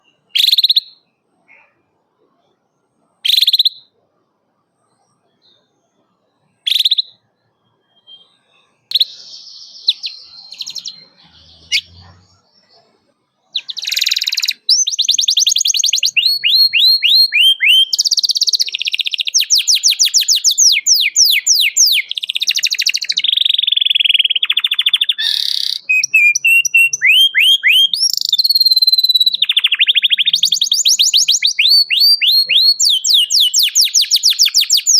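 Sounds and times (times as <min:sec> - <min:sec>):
canary singing: 0:00.0 - 0:01.8, 0:03.2 - 0:04.0, 0:04.7 - 0:34.9.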